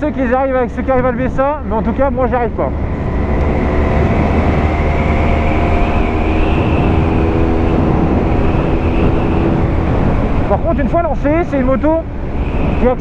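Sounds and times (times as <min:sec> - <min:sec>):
motorcycle engine at steady speed: 0:00.0 - 0:13.0.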